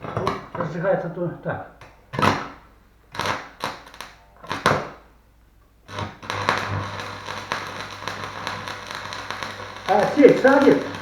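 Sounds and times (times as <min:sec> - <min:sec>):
welding electrode tapping metal: 0:00.0 - 0:00.8, 0:01.8 - 0:05.1, 0:05.8 - 0:11.0
arc welding crackle and hiss: 0:01.8 - 0:11.0.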